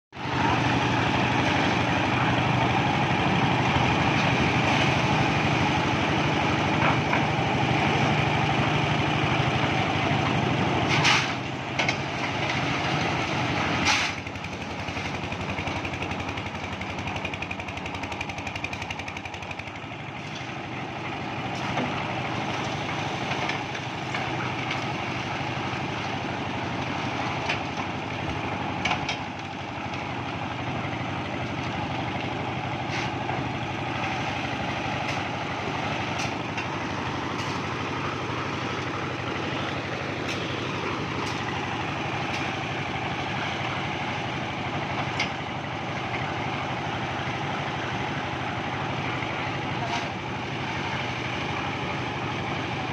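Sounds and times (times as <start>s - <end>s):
concrete mixer drone: 0.2s - 52.9s.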